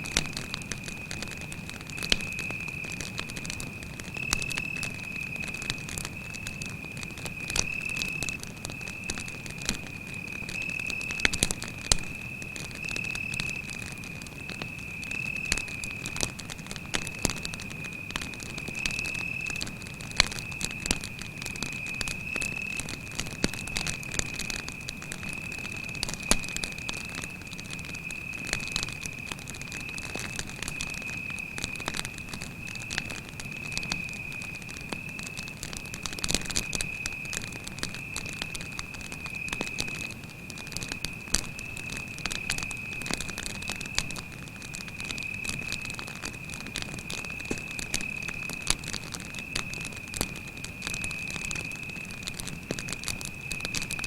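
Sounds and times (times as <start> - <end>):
campfire crackling and popping: 0.0 - 54.0
cricket trilling: 0.0 - 54.0.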